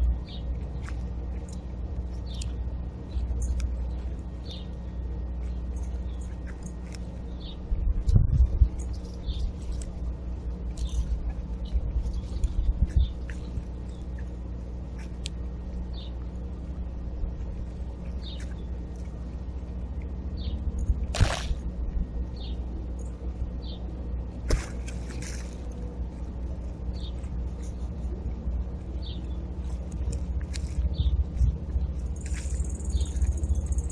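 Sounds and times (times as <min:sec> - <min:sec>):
small birds chirping: 0:00.0 - 0:16.5, 0:17.8 - 0:19.2, 0:20.3 - 0:20.7, 0:22.3 - 0:24.0, 0:26.7 - 0:33.9
low rumble: 0:00.0 - 0:33.9.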